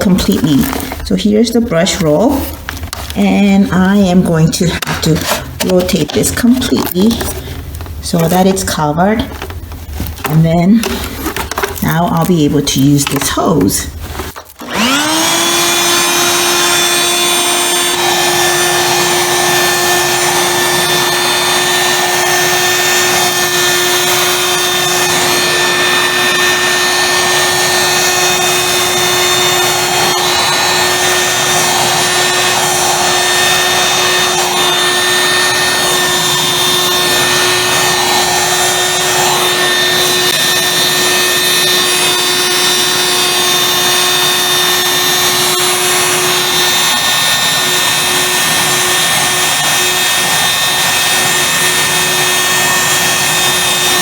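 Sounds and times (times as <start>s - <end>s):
handheld vacuum cleaner whining: 0.0s - 54.0s.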